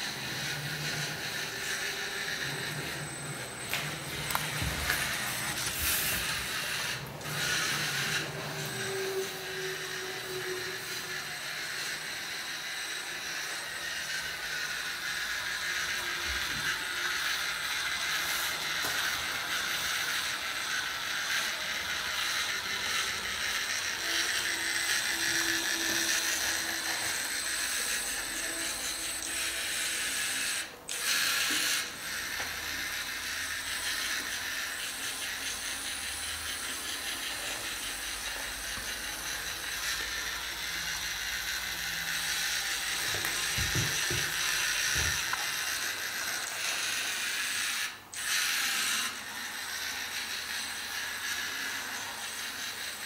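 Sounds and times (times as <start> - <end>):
toy robot motors whirring: 0.0 - 53.0.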